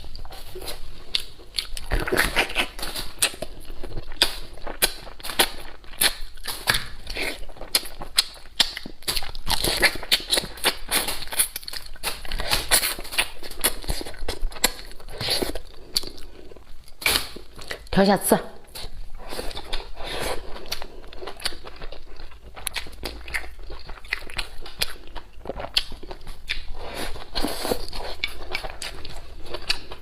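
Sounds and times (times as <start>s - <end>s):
chewing with crunches: 0.0s - 18.0s, 18.6s - 30.0s.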